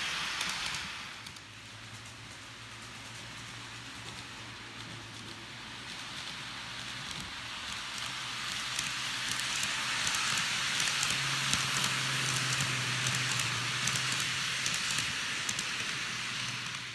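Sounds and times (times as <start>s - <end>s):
model train wheels hissing on track: 0.0s - 16.9s.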